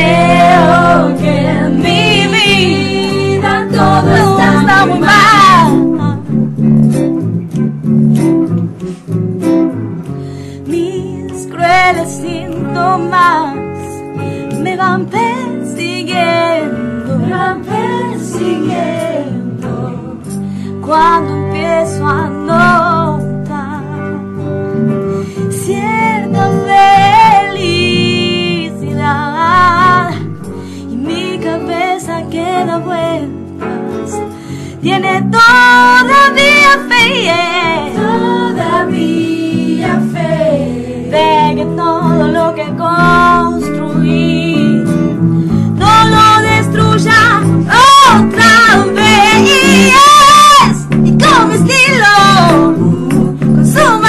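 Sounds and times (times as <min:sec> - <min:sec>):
woman singing: 0:00.0 - 0:06.4, 0:10.5 - 0:24.5, 0:25.4 - 0:54.0
electric guitar: 0:00.0 - 0:54.0.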